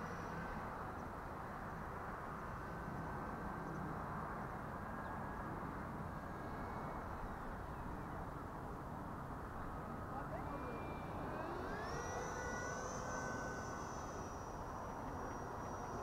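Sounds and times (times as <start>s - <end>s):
constant rushing noise: 0.0s - 16.0s
distant rc jet whine: 0.0s - 16.0s.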